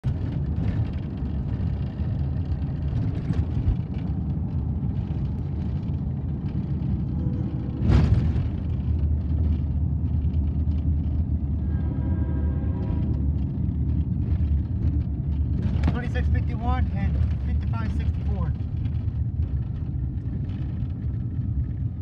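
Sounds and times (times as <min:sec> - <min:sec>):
car tyres and engine rumble: 0:00.0 - 0:22.0.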